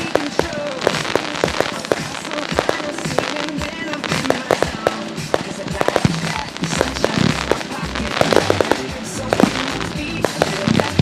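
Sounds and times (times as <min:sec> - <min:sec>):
fireworks popping and crackling: 0:00.0 - 0:11.0
music with steady bass line: 0:00.0 - 0:11.0.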